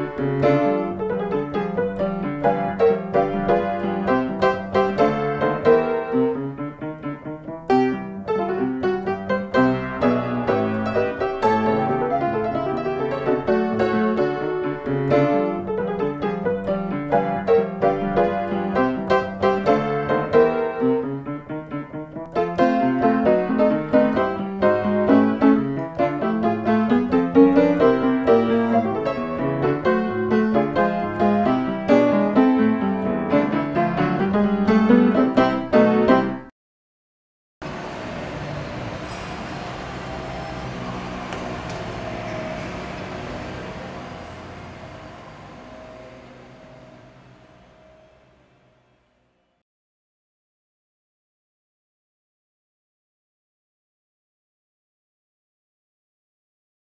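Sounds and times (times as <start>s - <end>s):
piano music: 0.0s - 36.5s, 37.6s - 49.2s.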